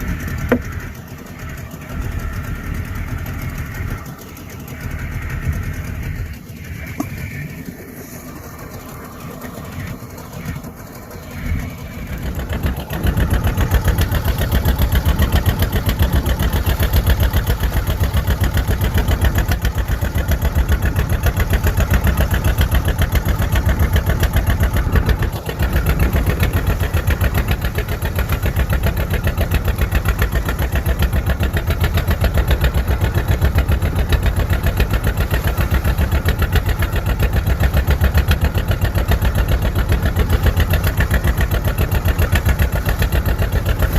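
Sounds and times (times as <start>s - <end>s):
boat engine starting and running: 0.0s - 43.9s.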